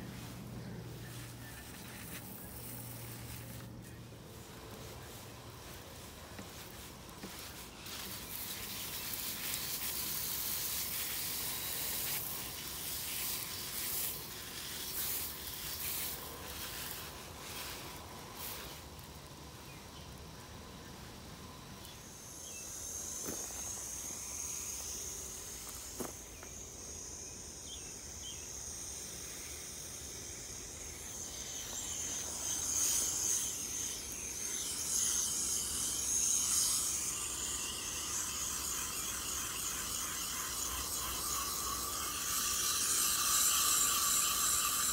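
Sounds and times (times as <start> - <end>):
hose spray hissing: 0.0 - 44.9.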